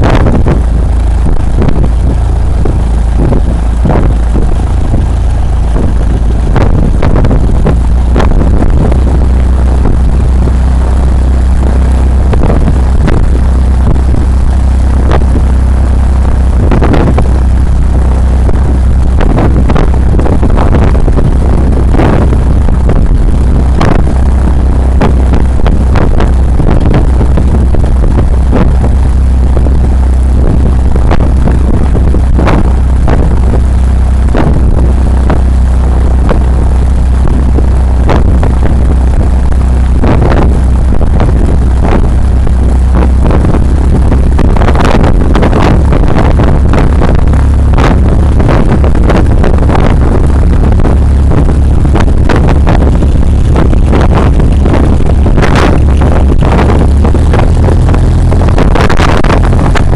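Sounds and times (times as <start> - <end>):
propeller aircraft engine idling: 0.0 - 59.9
wind buffeting microphone: 0.0 - 59.9.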